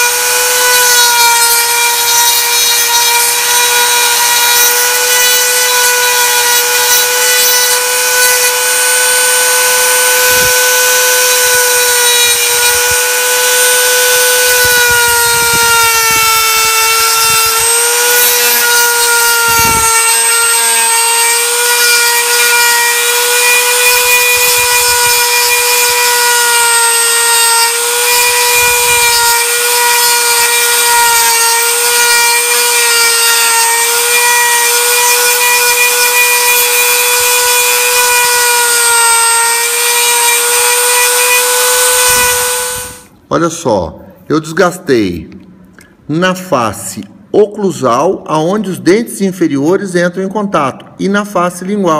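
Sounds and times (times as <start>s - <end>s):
rotary tool grinding acrylic: 0.0s - 43.1s.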